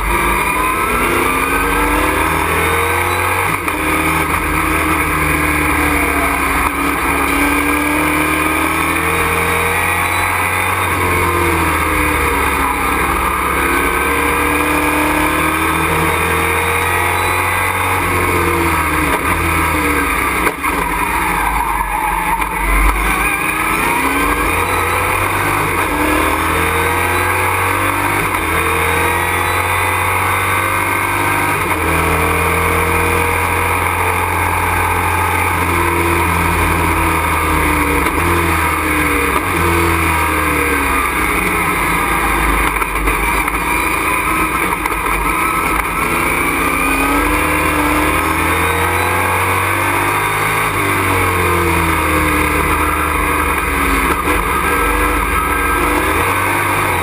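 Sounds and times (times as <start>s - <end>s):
race truck engine revving: 0.0s - 57.0s
road and wind noise: 0.0s - 57.0s.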